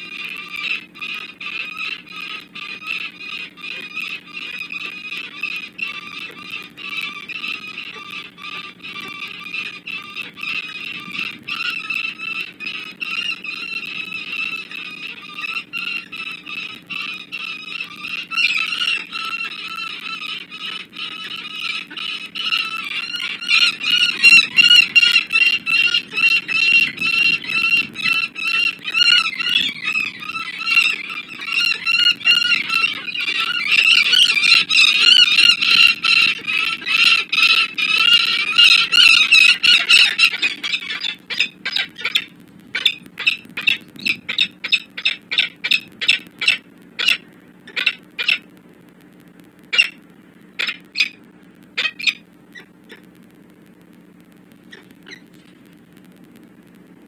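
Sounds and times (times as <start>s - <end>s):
falcons giving harsh alarm calls: 0.0s - 48.5s, 49.7s - 50.0s, 50.6s - 53.1s
steady low hum: 0.0s - 57.0s.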